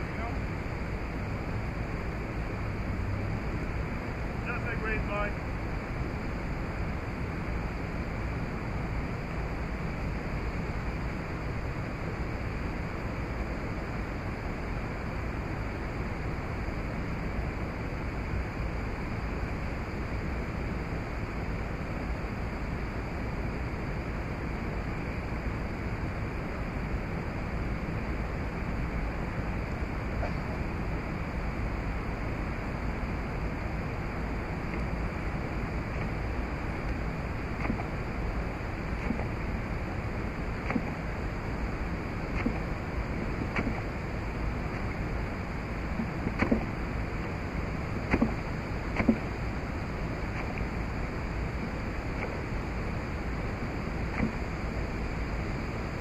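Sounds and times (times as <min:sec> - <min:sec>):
steady outdoor rushing noise: 0:00.0 - 0:56.0.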